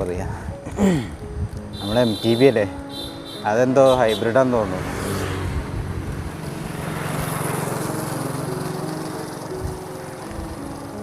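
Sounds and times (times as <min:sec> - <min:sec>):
road and wind noise: 0:00.0 - 0:11.0
passing vehicle engine hum: 0:02.1 - 0:11.0.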